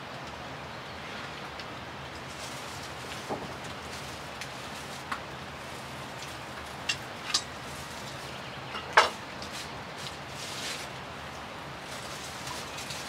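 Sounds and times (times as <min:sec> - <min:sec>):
dry straw crackling when handled: 0:02.1 - 0:13.0.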